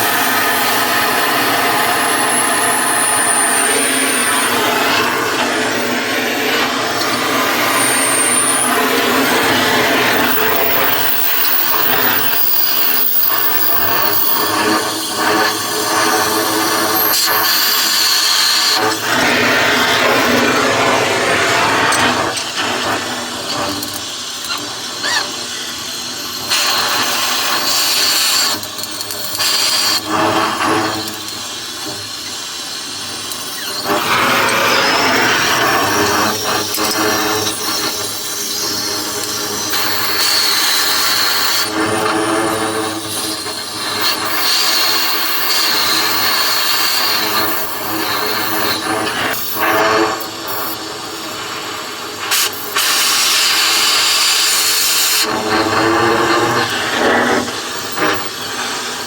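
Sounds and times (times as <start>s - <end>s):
gas cutting torch hissing: 0.0s - 59.0s.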